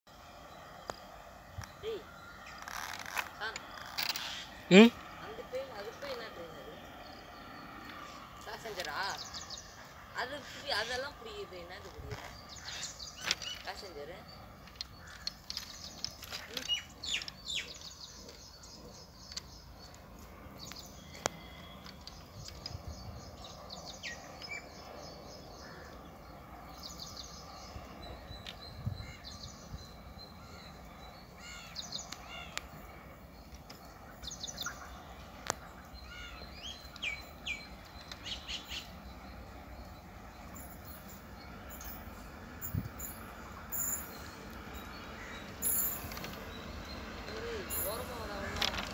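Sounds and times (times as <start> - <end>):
small birds chirping: 0.1 - 48.9.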